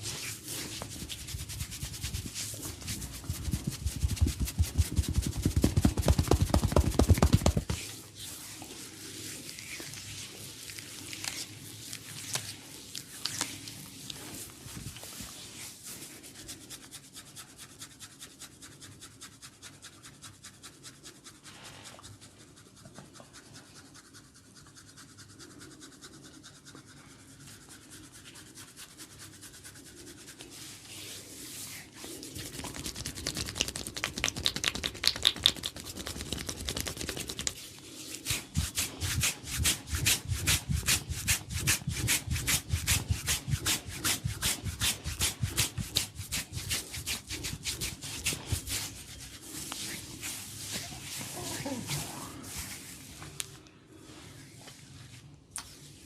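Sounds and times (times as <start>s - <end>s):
hands scrubbing oiled scalp: 0.0s - 56.0s.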